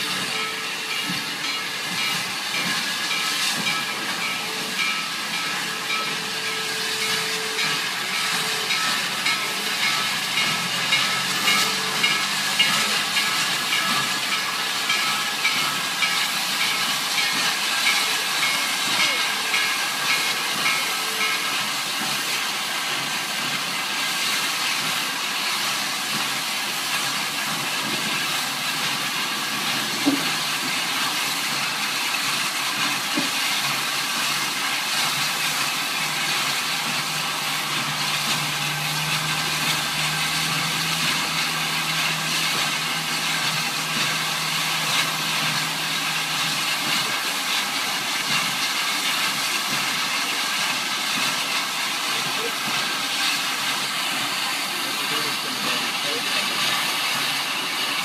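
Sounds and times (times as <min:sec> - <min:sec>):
steam hissing: 0:00.0 - 0:58.0.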